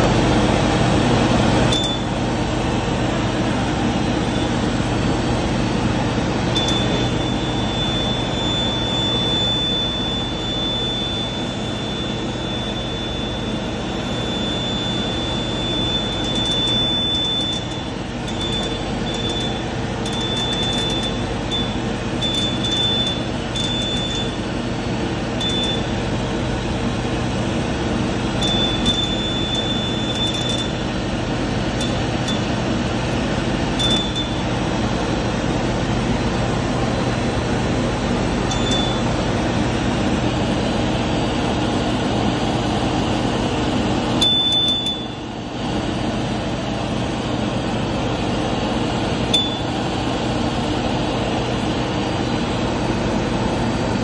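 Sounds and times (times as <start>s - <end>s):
machinery hum and blower noise: 0.0s - 54.0s
thin high whine: 1.1s - 35.9s, 36.9s - 48.2s, 49.2s - 50.2s.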